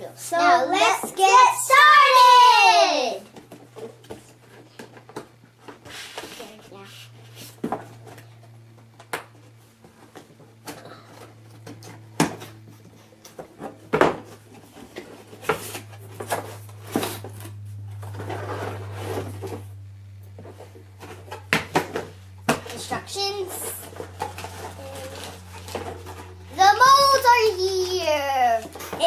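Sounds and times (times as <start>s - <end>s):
cardboard and packaging rustling: 3.2s - 29.0s.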